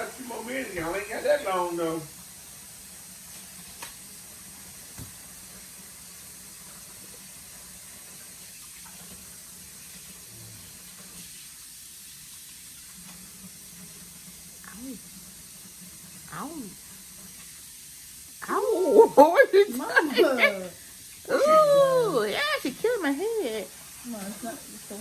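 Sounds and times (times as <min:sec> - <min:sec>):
room noise hiss and hum: 0:00.0 - 0:25.0.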